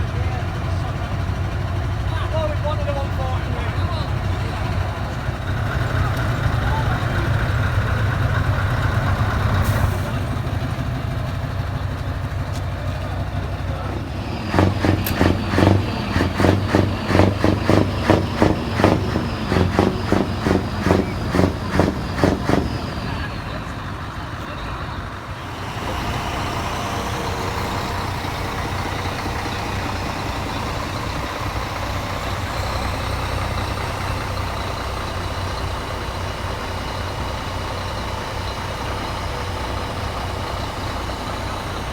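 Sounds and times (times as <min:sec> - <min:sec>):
heavy truck engines running: 0:00.0 - 0:41.9.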